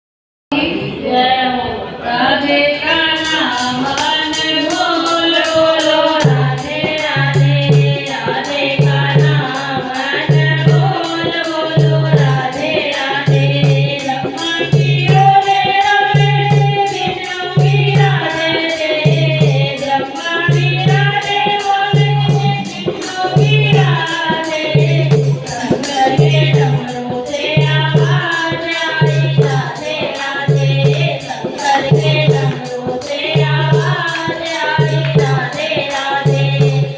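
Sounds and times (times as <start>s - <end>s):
person singing devotional song: 0.5s - 36.9s
jingling percussion: 2.9s - 36.9s.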